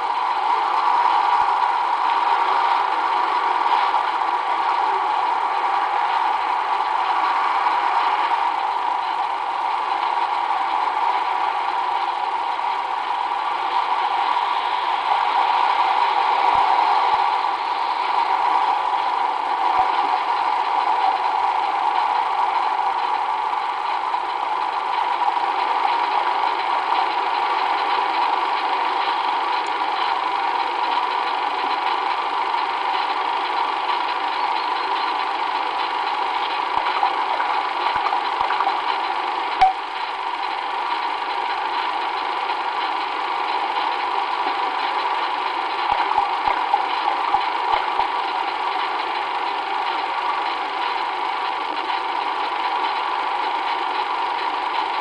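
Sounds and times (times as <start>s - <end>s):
faint clicks and ticks: 0.0s - 55.0s
machine hum and hiss: 0.0s - 55.0s.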